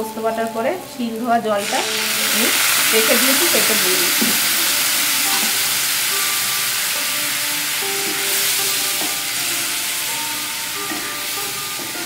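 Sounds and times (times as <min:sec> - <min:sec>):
food sizzling in hot oil: 0:00.4 - 0:12.0.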